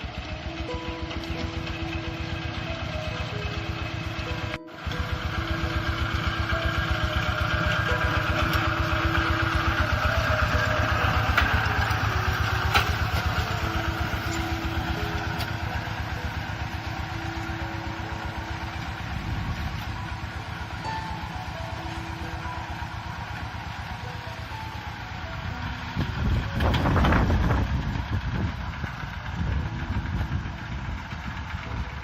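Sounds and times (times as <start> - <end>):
tractor diesel engine chugging: 0.0 - 32.0.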